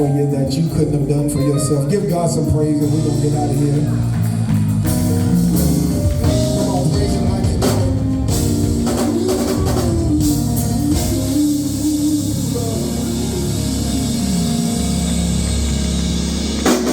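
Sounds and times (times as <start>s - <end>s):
bass guitar: 0.0s - 16.9s
drum kit: 0.0s - 16.9s
electric guitar: 0.0s - 16.9s.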